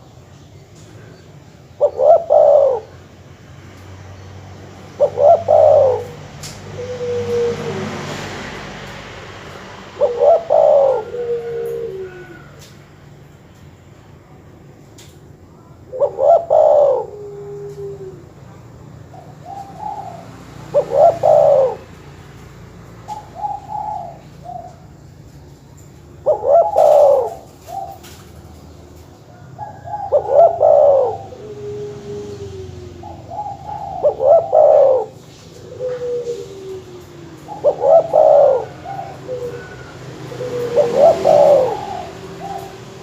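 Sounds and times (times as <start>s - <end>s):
dove cooing: 1.0s - 3.3s, 4.6s - 12.8s, 15.6s - 43.0s.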